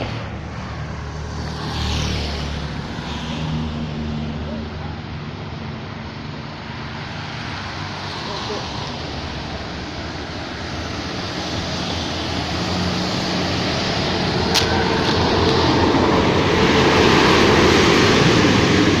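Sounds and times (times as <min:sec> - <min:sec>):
bus engine pulling uphill: 0:00.0 - 0:19.0.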